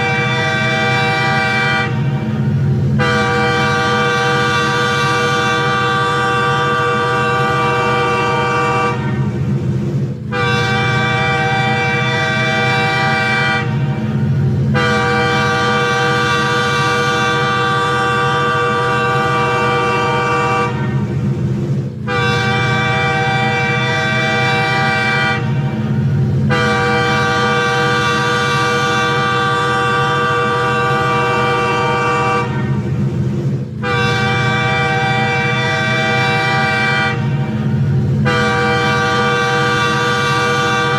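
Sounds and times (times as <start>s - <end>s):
train horn blasts: 0.0s - 40.9s.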